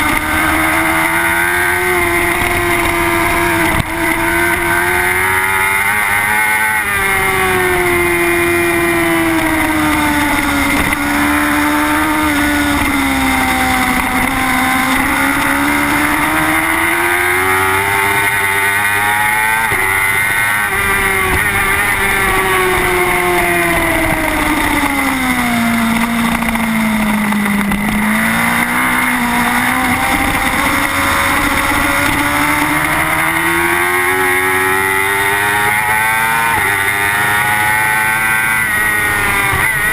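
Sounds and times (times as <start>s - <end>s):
motorcycle engine accelerating and braking: 0.0s - 39.9s.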